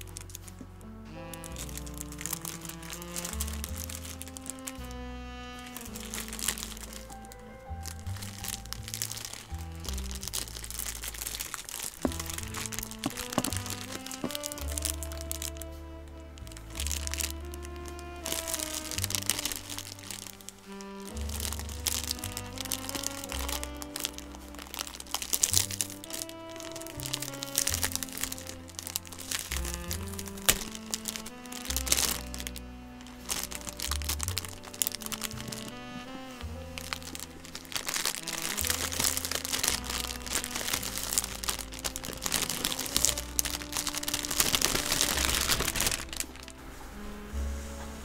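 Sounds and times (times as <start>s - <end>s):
background music with bass line: 0.0s - 48.0s
plastic wrap crinkling: 0.0s - 48.0s.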